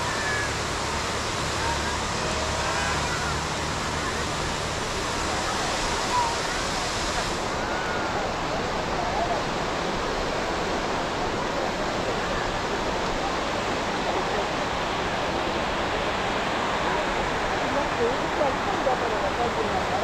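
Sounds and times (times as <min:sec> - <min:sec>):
faint voices and calls: 0:00.0 - 0:20.0.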